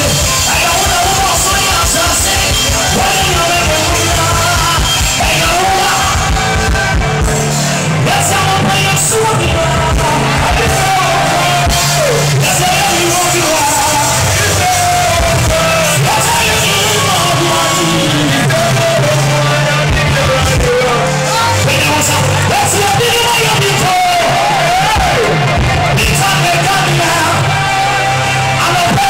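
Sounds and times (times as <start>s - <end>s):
man singing gospel: 0.0s - 7.0s, 7.9s - 29.0s
band with bass and drums: 0.0s - 29.0s.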